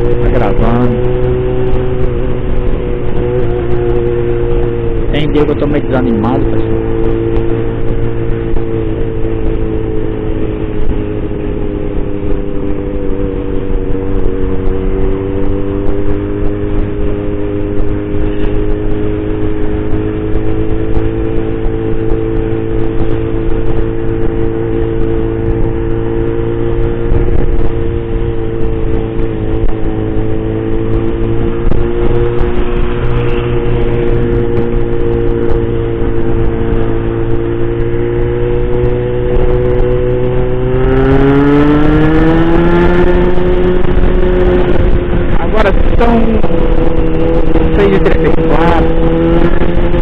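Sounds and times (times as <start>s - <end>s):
motorcycle engine cruising: 0.0s - 50.0s
road rumble: 0.0s - 50.0s
wind: 0.0s - 50.0s.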